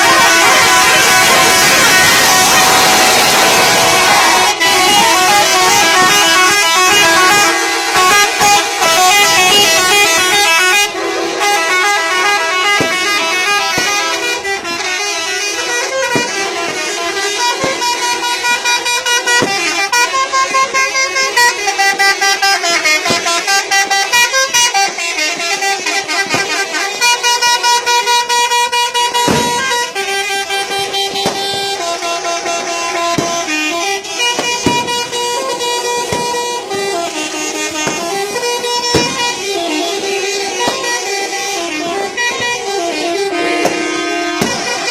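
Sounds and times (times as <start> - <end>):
musical bus horn playing a tune: 0.0 - 44.9.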